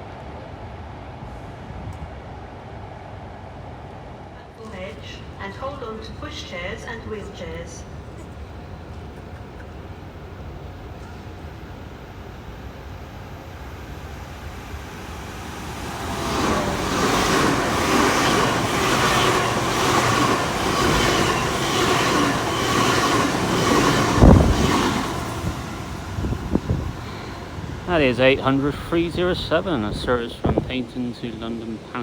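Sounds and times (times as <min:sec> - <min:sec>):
train passing: 0:00.0 - 0:32.0.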